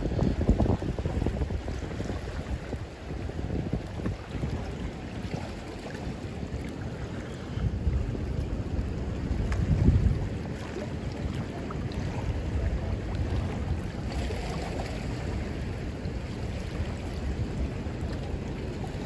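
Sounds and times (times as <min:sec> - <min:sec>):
spillway water rushing: 0:00.0 - 0:19.0
wind buffeting microphone: 0:00.0 - 0:19.0.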